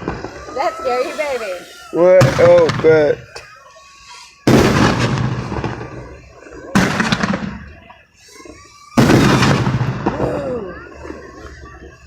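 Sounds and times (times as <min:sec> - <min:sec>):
firework explosions: 0:00.0 - 0:11.6.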